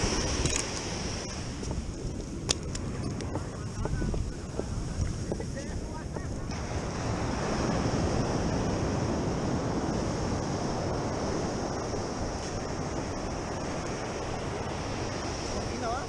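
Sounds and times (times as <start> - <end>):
ocean surf washing onto beach: 0.0 - 16.0
wind rushing over microphone: 0.0 - 16.0.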